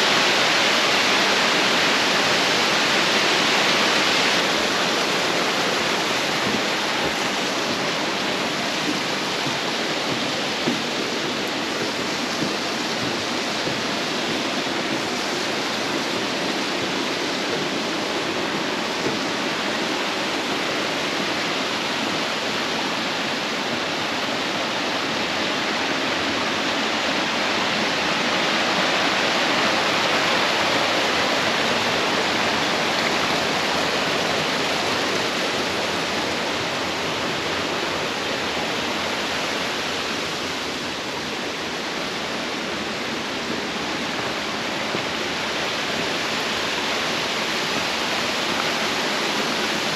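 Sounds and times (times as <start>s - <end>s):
falling water rushing: 0.0s - 49.9s.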